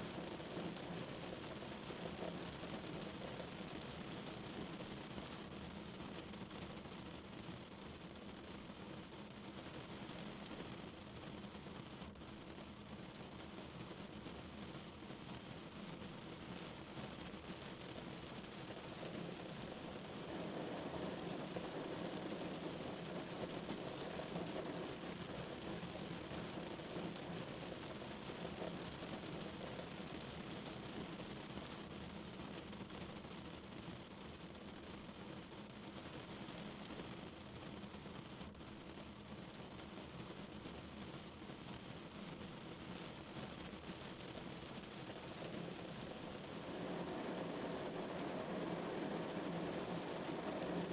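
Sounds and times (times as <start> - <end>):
rain falling on a car: 0.0 - 50.9.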